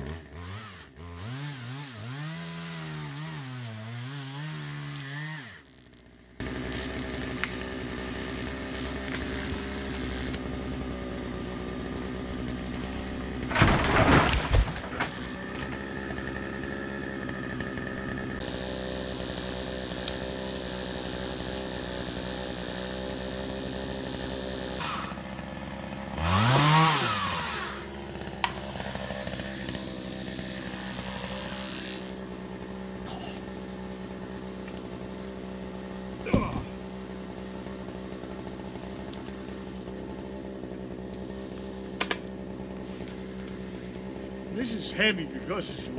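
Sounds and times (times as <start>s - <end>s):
chainsaw engine idling and revving: 0.0s - 45.9s.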